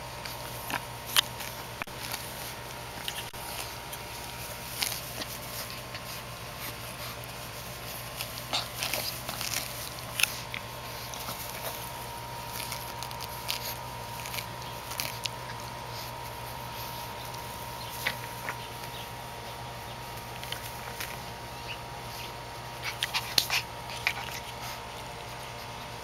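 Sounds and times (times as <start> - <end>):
puppy chewing grass: 0.0 - 26.0.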